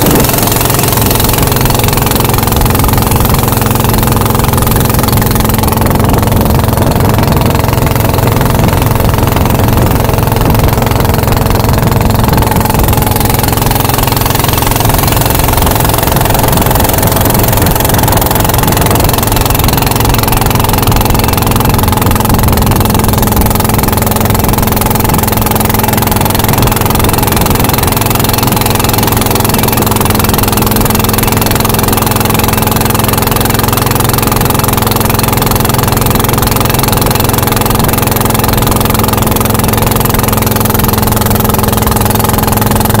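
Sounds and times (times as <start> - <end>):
boat engine drone: 0.0 - 43.0
water rushing: 0.0 - 43.0
wind: 0.0 - 43.0.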